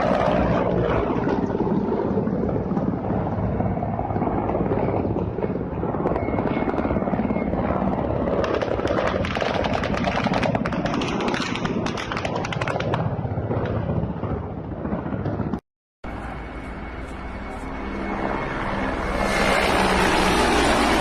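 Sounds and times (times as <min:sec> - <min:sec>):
helicopters flying low: 0:00.0 - 0:21.0.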